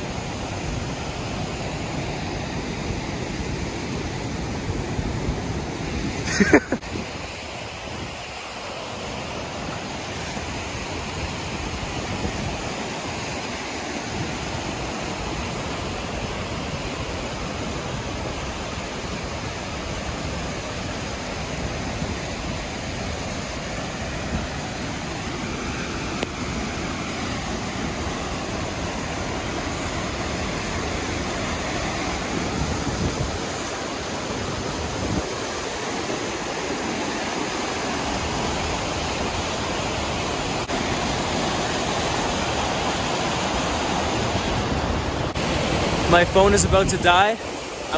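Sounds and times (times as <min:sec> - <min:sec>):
rushing river water: 0:00.0 - 0:47.9.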